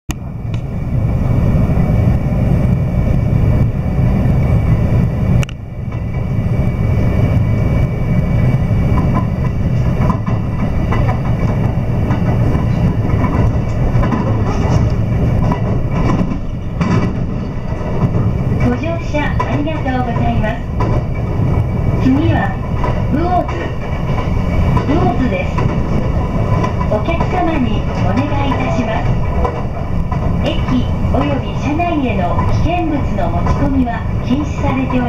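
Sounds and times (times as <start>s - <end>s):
train wheels rumbling on rail: 0.1s - 35.0s.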